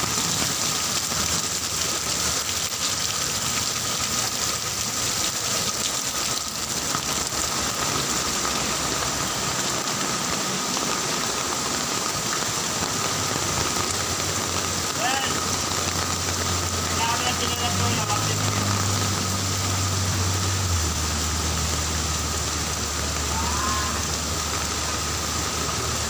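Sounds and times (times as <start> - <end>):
heavy rain splashing on ground: 0.0 - 26.0.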